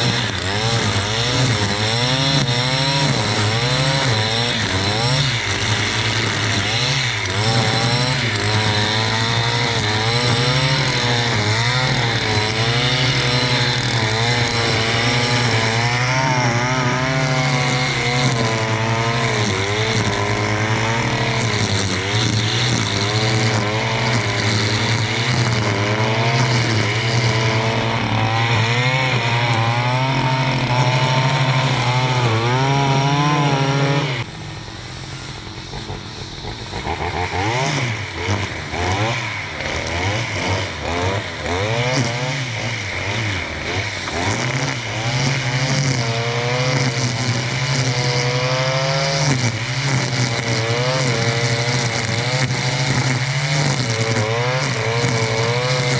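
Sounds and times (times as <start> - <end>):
brushcutter engine revving: 0.0 - 55.9.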